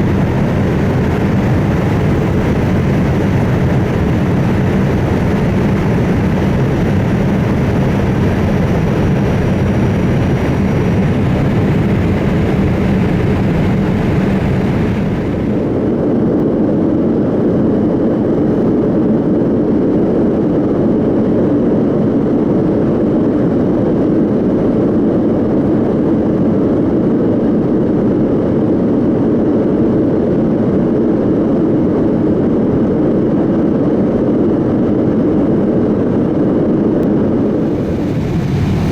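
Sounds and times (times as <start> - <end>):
jet engine and airflow noise: 0.0 - 38.9.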